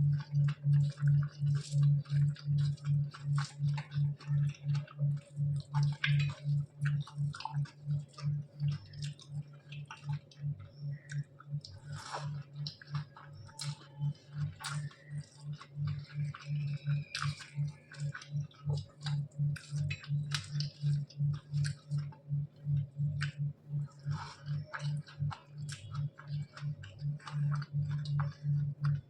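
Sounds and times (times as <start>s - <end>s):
chewing soft food: 0.0s - 29.0s
wet mouth clicks and smacks: 0.1s - 29.0s.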